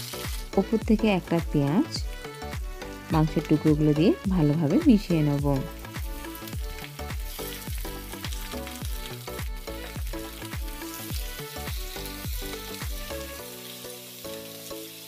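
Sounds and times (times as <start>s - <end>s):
background music with steady beat: 0.0s - 15.0s
food sizzling in hot oil: 0.0s - 15.0s.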